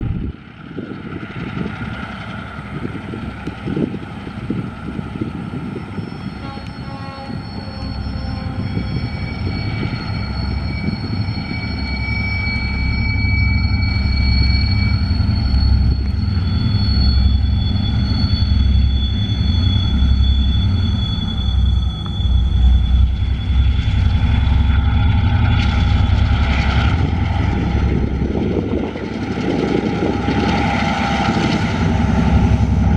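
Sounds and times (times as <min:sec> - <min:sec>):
locomotive engines droning: 0:00.0 - 0:32.9
high-pitched whining tones: 0:01.1 - 0:32.9.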